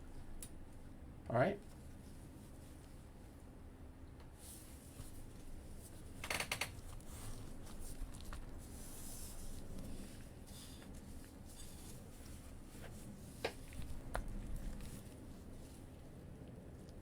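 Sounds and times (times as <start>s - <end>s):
faint rubbing and handling noises: 1.6s - 3.5s, 4.3s - 17.0s.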